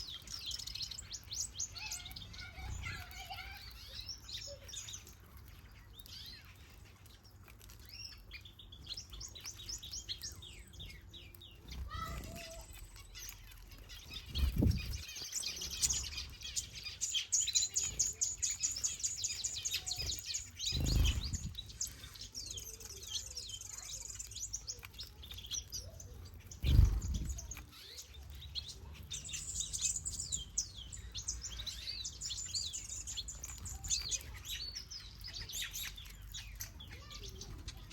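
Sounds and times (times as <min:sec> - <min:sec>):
birds chirping and twittering: 0:00.0 - 0:37.9.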